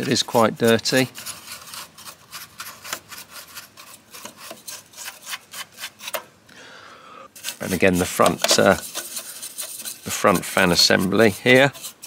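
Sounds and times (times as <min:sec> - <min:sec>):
paintbrush scratching circuit board: 0:00.0 - 0:06.2, 0:07.4 - 0:12.0.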